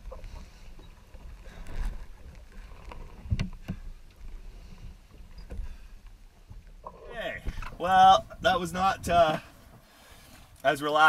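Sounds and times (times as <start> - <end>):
water sloshing against hull: 0.0 - 10.6.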